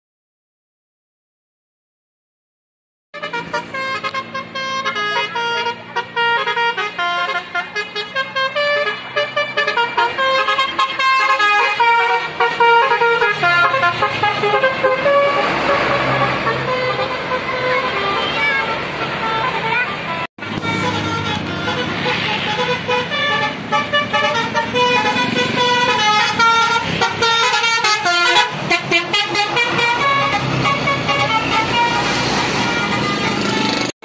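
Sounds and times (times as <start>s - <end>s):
multi-tone bus air horn melody: 3.2s - 33.9s.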